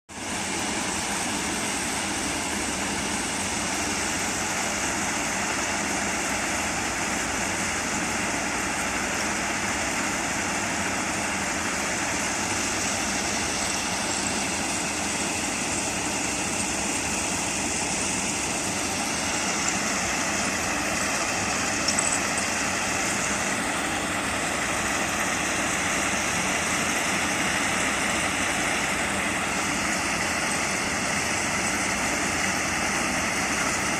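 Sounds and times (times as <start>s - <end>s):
machine engine running: 0.2s - 33.9s.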